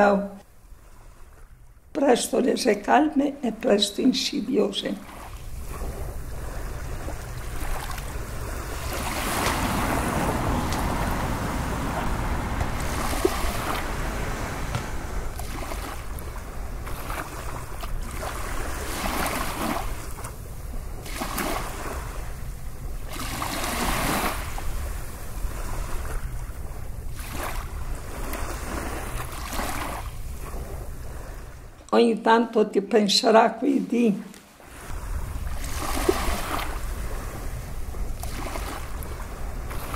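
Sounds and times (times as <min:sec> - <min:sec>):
sea waves washing in: 0:05.0 - 0:31.8, 0:33.9 - 0:39.9.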